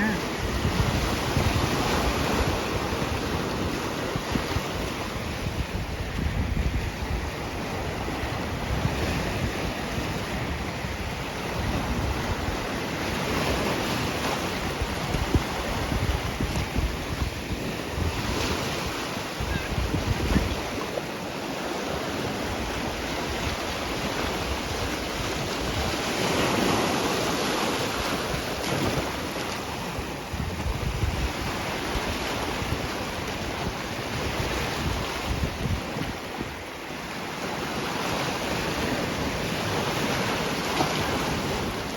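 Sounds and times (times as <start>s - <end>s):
sea waves washing ashore: 0.0s - 41.9s
wind gusting on microphone: 0.0s - 41.9s.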